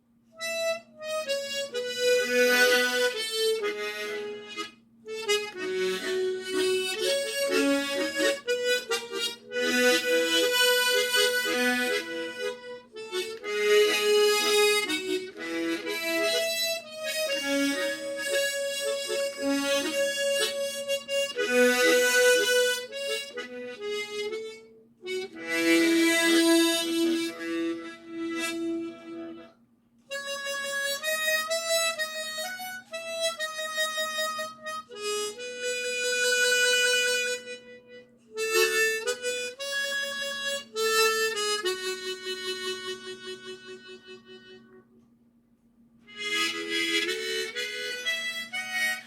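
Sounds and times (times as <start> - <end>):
harmonica melody: 0.0 - 45.0, 46.0 - 49.0.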